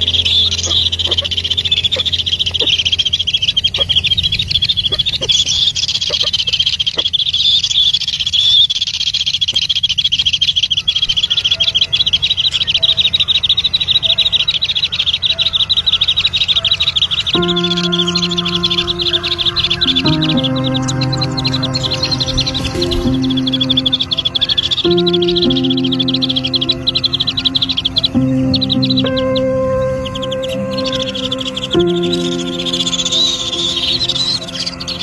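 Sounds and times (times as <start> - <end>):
soft musical tones: 0.0 - 5.4, 12.0 - 35.0
small animals chirping: 0.0 - 35.0.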